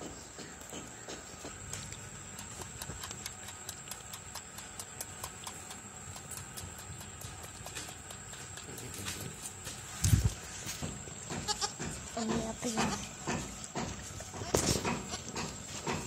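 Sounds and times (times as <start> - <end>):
hooves tapping on concrete: 0.0 - 16.0
goat kid suckling: 0.4 - 16.0.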